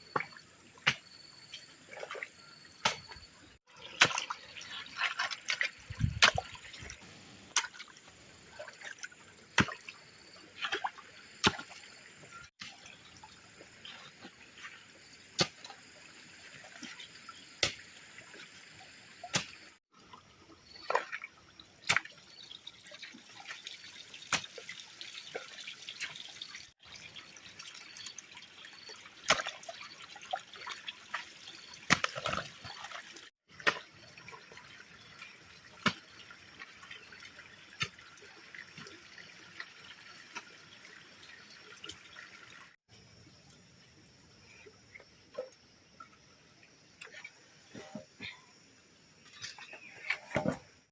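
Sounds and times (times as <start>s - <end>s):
water trickling and dripping: 0.0s - 48.4s.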